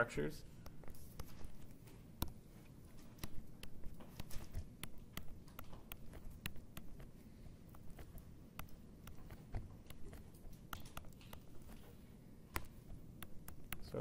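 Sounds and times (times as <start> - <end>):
stylus tapping on tablet screen: 0.6 - 14.0.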